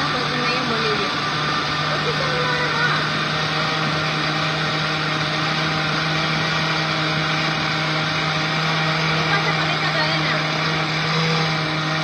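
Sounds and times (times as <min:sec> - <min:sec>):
electric blender motor running: 0:00.0 - 0:12.0.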